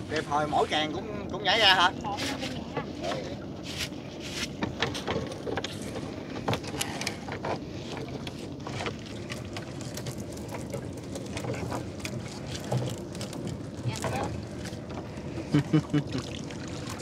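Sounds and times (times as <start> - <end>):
boat engine hum: 0.0 - 17.0.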